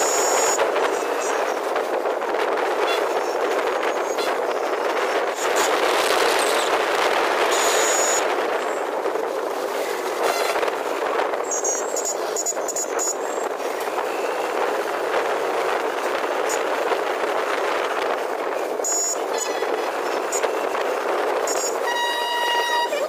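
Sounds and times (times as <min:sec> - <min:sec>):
traffic and road noise: 0:00.0 - 0:23.0.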